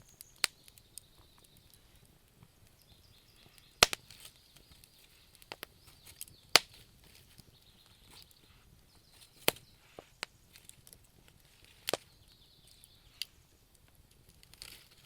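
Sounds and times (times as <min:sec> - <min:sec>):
wood fire hissing and crackling: 0:00.0 - 0:15.0.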